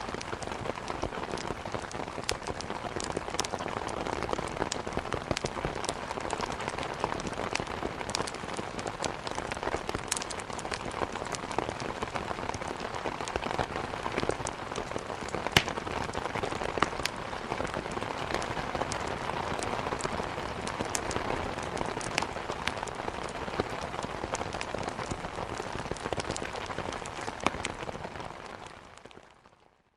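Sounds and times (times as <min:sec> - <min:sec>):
heavy rain against window: 0:00.0 - 0:29.4
wood crackling in fireplace: 0:00.1 - 0:29.4.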